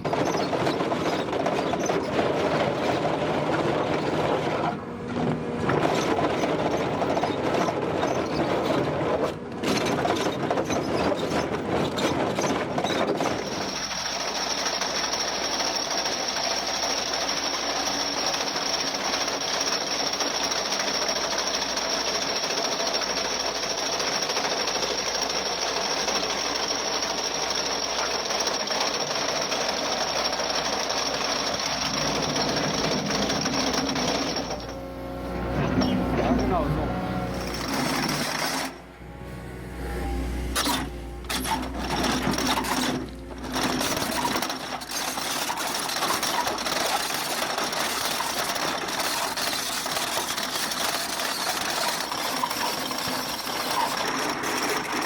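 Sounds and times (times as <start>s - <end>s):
chain cutter grinding rock: 0.0s - 38.9s, 39.9s - 55.0s.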